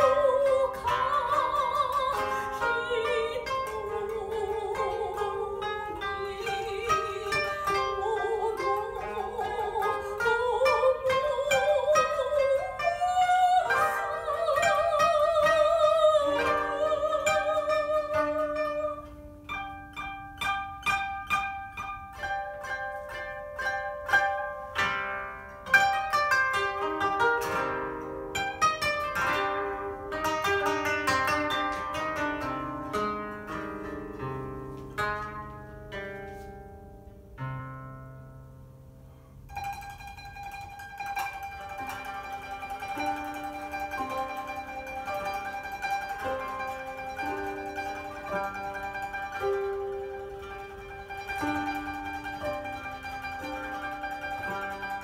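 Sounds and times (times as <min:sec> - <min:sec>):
koto plucked notes: 0:00.0 - 0:55.0.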